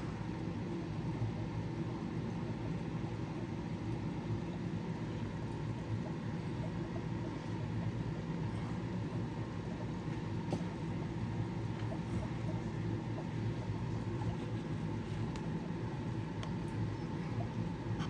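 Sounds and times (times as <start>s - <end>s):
aquarium equipment humming: 0.0s - 18.0s.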